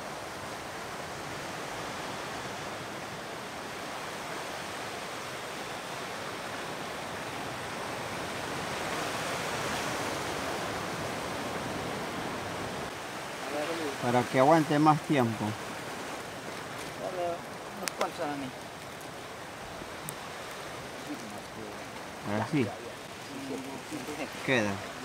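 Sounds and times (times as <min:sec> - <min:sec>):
surf breaking on rocky shore: 0:00.0 - 0:25.0.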